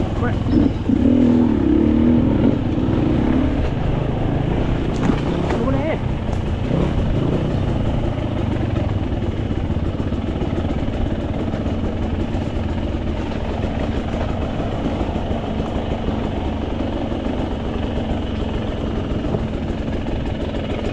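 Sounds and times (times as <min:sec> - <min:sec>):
dirt bike engine idling: 0:00.0 - 0:20.9.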